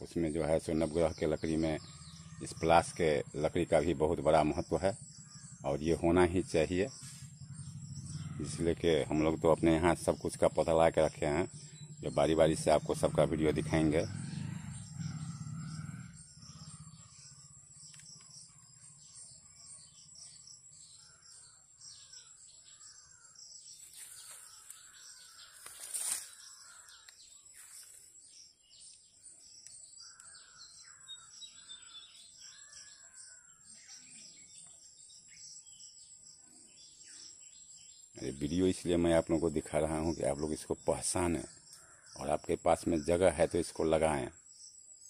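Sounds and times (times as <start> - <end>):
birds chirping and calling: 0.0 - 45.0.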